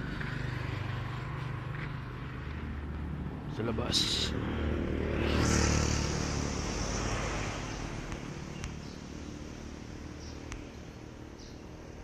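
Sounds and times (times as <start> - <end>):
passing vehicle rumble: 0.0 - 12.0.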